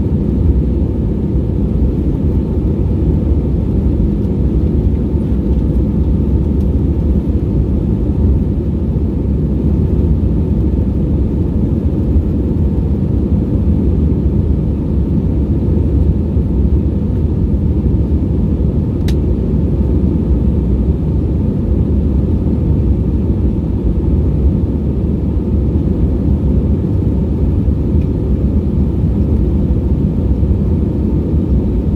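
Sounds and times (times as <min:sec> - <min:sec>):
airplane cabin rumble: 0:00.0 - 0:31.9.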